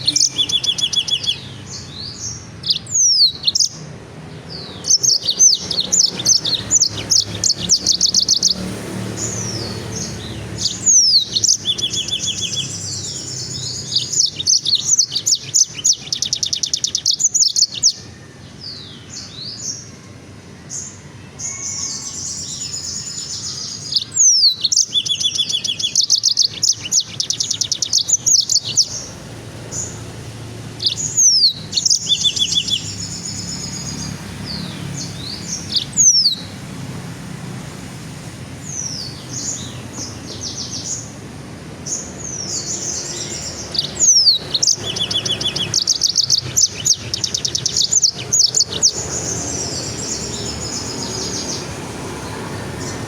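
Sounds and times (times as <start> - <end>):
songbird trilling and chattering: 0.0 - 19.9, 21.4 - 36.6, 38.6 - 53.0.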